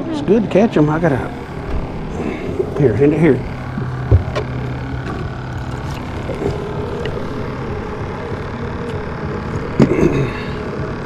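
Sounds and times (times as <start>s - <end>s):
motorboat engine drone: 0.0s - 11.0s.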